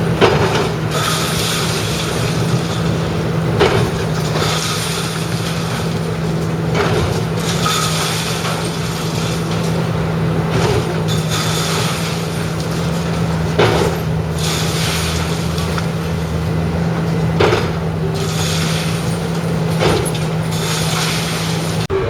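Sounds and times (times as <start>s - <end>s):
demolition machinery drone: 0.0s - 22.0s
loud crunching bursts: 0.0s - 22.0s.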